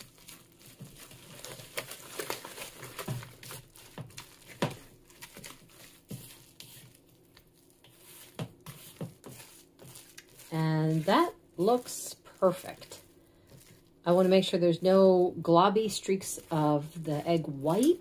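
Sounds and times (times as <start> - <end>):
spatula stirring sticky dough: 0.0 - 18.0.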